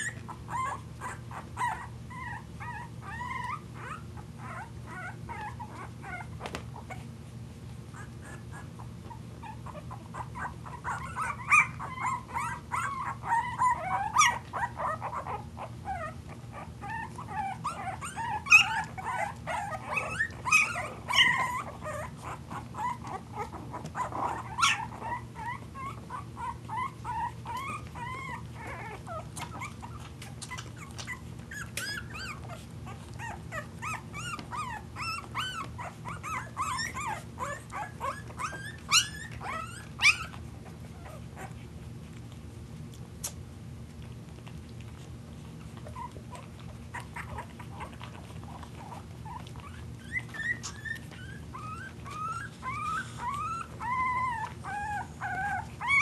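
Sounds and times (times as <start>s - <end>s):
puppy yelps: 0.0s - 7.0s, 7.9s - 41.6s, 45.8s - 56.0s
puppies squeaking and whimpering: 0.0s - 7.2s, 7.9s - 42.5s, 44.2s - 56.0s.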